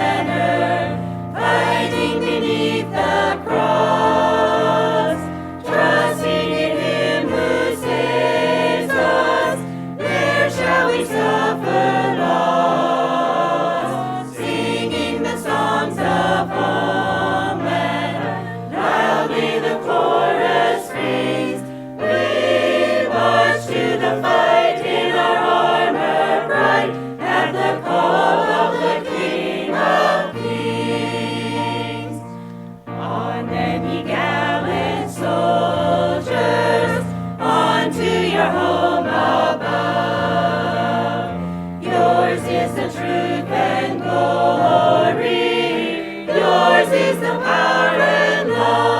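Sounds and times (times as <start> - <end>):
choir singing a hymn: 0.0 - 48.9.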